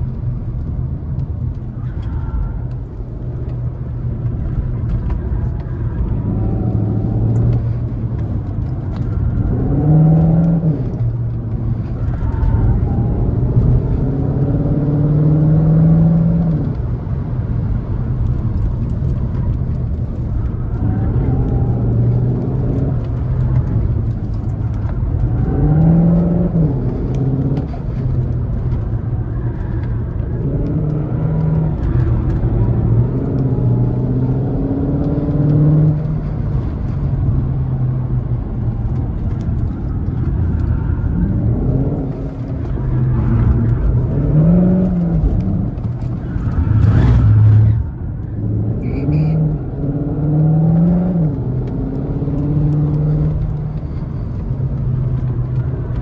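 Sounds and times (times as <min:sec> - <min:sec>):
car engine revving: 0:01.2 - 0:56.0.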